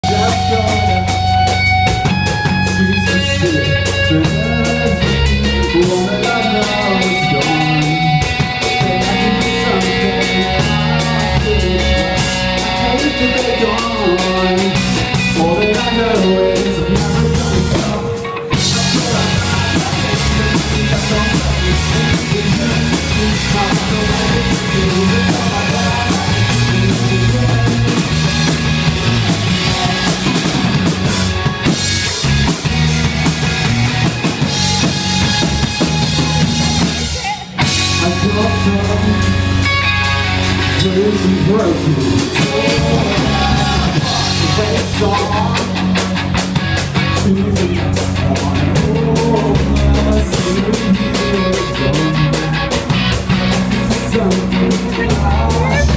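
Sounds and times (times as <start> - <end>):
person singing: 0.0 - 31.4, 34.4 - 55.9
drums: 0.0 - 55.9.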